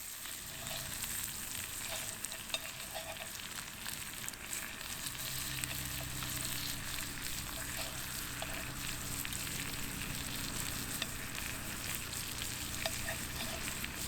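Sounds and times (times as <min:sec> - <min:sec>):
steak sizzling on a griddle: 0:00.0 - 0:14.0.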